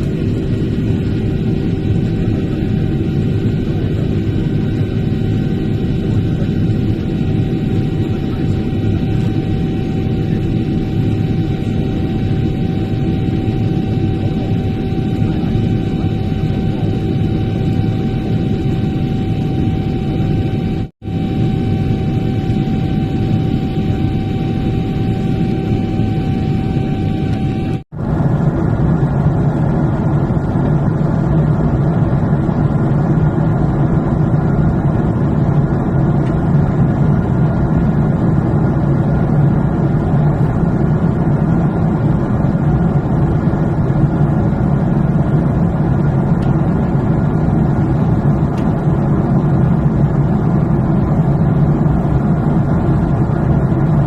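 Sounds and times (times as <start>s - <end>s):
airliner cabin engine roar: 0.0s - 54.0s
steady whine: 0.0s - 54.0s.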